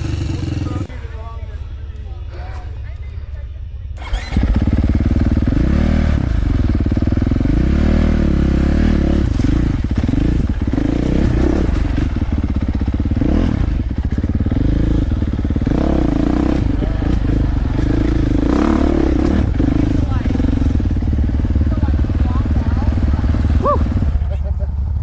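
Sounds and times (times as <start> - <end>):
dirt bike engine revving: 0.0 - 1.1, 4.0 - 25.0.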